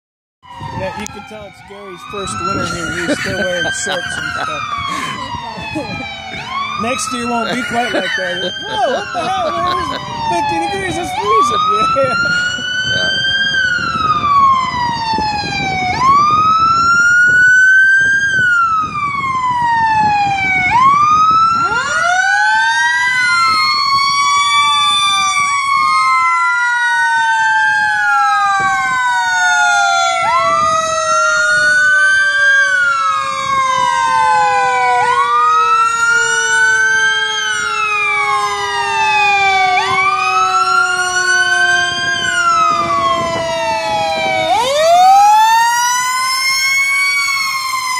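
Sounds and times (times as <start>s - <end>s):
fire engine sirens wailing: 0.4s - 47.9s.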